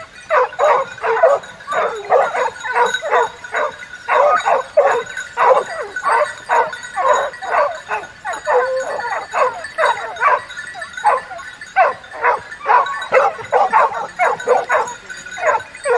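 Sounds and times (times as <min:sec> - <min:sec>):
hounds baying and barking: 0:00.0 - 0:15.9.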